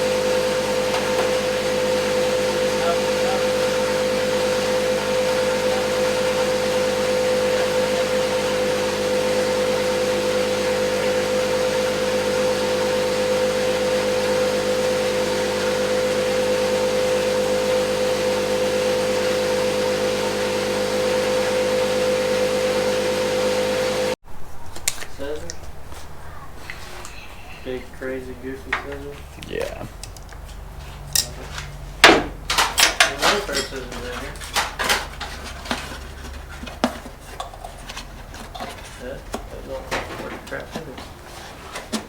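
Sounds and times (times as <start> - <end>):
machine droning hum: 0.0 - 42.0.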